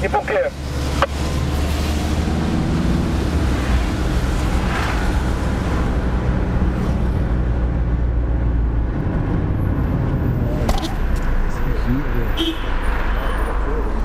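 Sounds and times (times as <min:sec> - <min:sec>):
car engine drone: 0:00.0 - 0:14.0.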